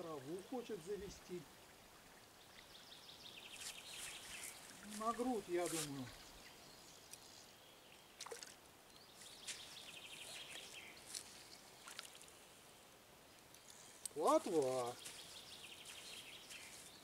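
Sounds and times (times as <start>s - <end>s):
faint lakeside ambience: 0.0s - 17.0s.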